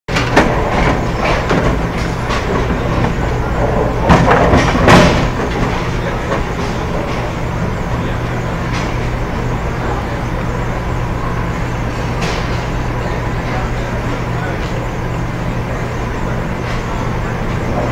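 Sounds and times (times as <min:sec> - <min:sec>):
bowling balls rolling: 0:00.1 - 0:17.9
bowling pins clattering: 0:00.1 - 0:17.9
pinsetter machinery hum: 0:00.1 - 0:17.9.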